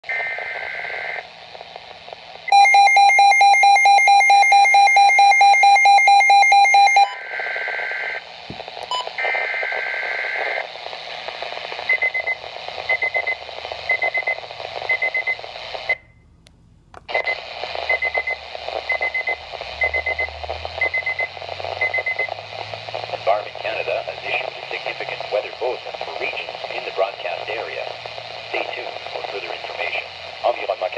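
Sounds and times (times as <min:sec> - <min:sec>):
radio static: 0:00.0 - 0:02.6, 0:06.5 - 0:16.0, 0:17.1 - 0:30.9.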